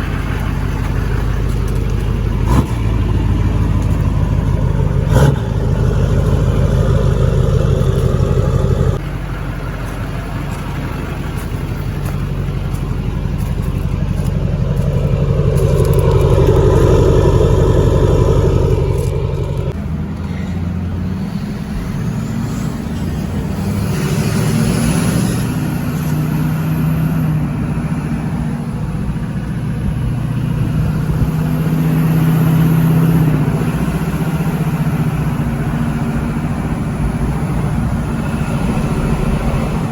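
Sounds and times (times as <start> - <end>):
diesel engine through straight pipe: 0.0 - 39.9.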